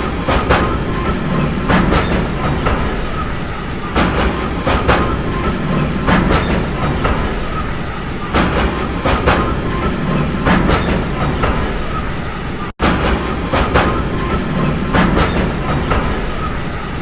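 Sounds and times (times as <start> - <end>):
train rumbling along track: 0.0 - 17.0
wheels clattering over rail joints: 0.0 - 17.0.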